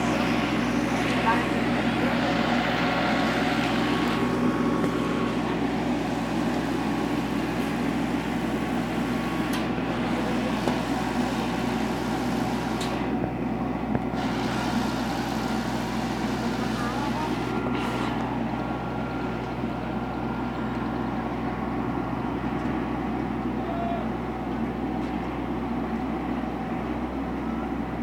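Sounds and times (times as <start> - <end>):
vehicle engine running: 0.0 - 26.1.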